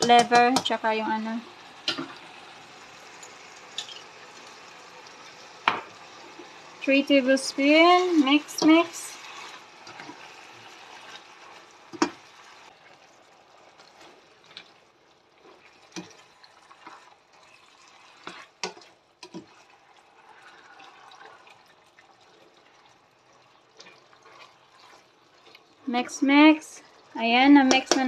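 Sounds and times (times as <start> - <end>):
sauce bubbling and sizzling: 0.0 - 28.0.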